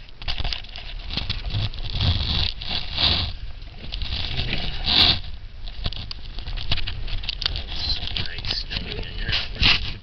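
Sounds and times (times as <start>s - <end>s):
tyre and engine rumble: 0.7s - 10.0s
tyres crackling on packed snow: 0.9s - 10.0s.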